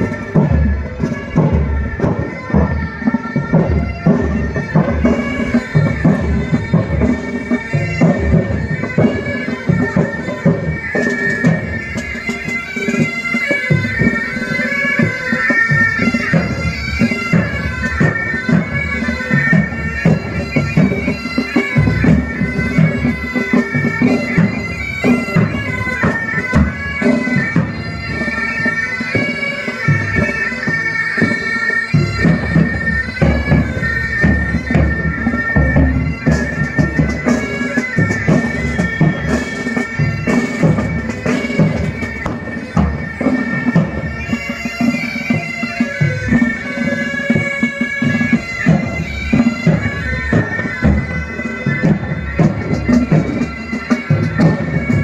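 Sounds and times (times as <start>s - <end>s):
bagpipes playing melody: 0.0s - 55.0s
drums beating: 0.0s - 55.0s.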